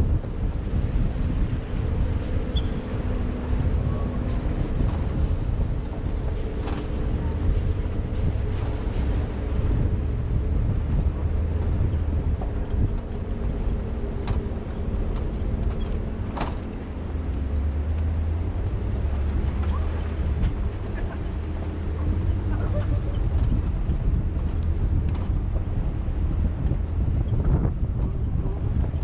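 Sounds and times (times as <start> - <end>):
truck engine rumbling: 0.0 - 29.0.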